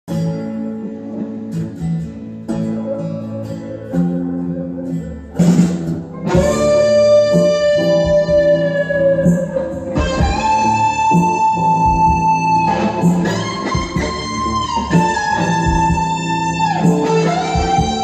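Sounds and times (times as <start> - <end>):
electric guitar lead solo: 0.1 - 18.0
sustained guitar chords: 0.1 - 18.0.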